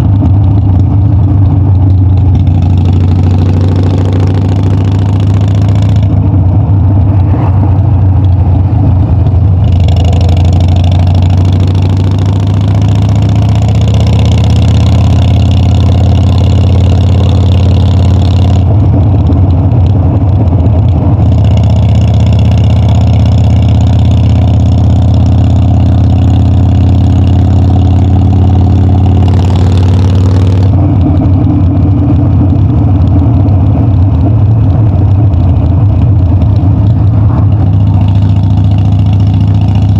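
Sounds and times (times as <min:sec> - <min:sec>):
motorcycle engine and exhaust running: 0:00.0 - 0:39.9.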